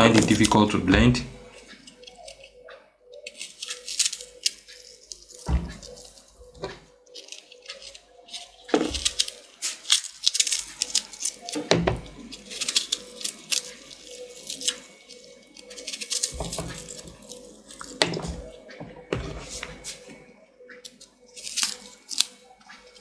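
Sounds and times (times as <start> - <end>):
water splashing and dripping: 3.2 - 23.0.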